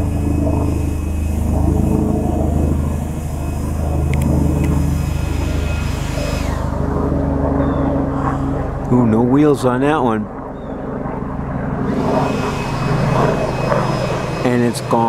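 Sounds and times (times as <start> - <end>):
helicopter engine drone: 0.0 - 15.0
helicopter rotor chop: 0.0 - 15.0.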